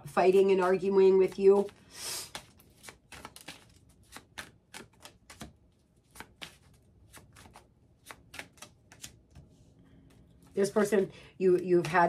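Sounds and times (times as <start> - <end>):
cards being shuffled: 0.3 - 11.0, 11.6 - 12.0.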